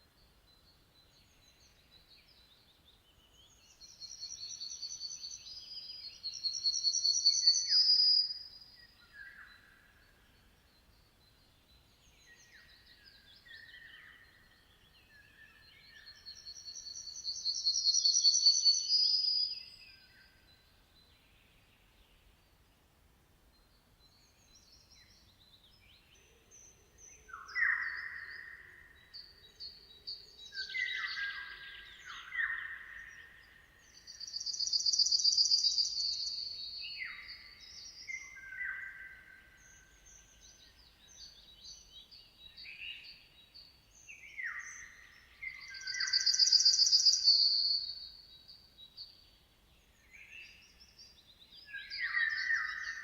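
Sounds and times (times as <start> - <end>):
soft bird chirps: 0.0 - 53.0.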